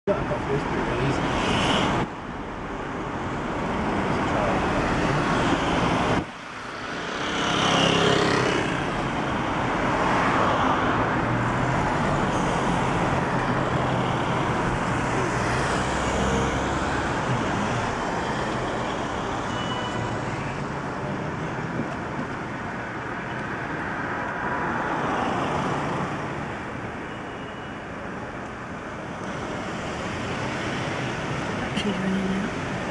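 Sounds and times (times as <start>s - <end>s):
city road traffic: 0.0s - 32.9s.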